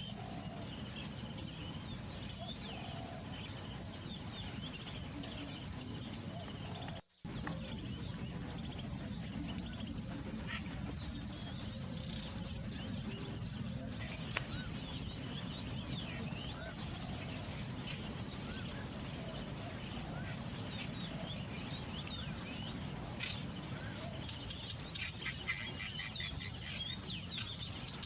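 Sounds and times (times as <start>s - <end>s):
low background rumble: 0.0s - 25.0s
small birds chirping: 0.0s - 28.0s.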